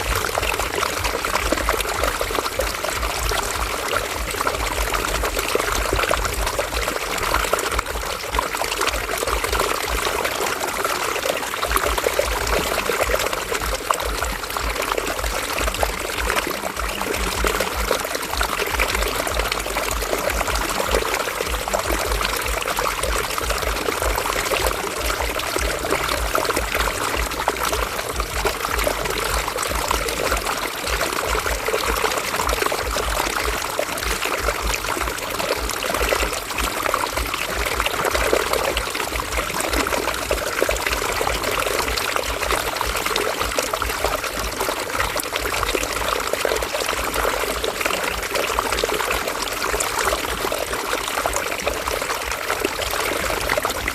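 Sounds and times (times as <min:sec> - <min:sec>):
river water splashing over rocks: 0:00.0 - 0:53.9.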